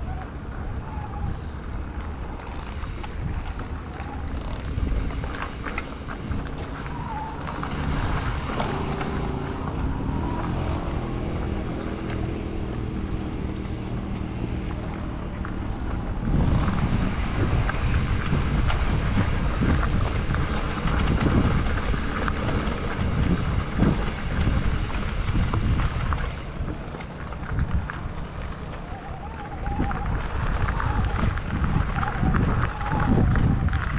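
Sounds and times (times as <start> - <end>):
e-bike rumbling over rough track: 0.0 - 33.9
wind buffeting microphone: 0.0 - 33.9.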